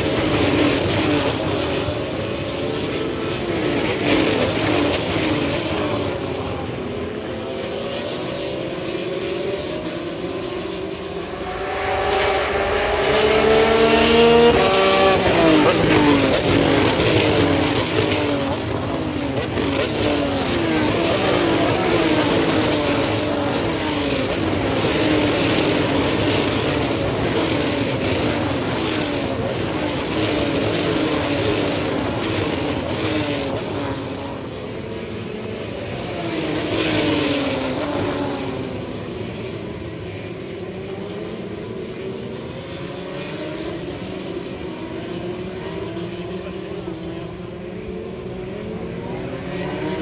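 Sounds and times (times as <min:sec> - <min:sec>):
racing cars passing: 0:00.0 - 0:50.0.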